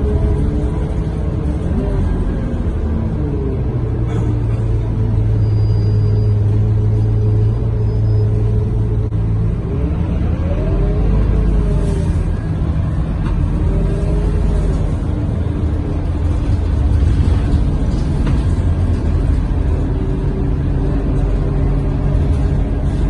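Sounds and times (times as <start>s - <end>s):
bus engine and road drone: 0.0s - 23.0s.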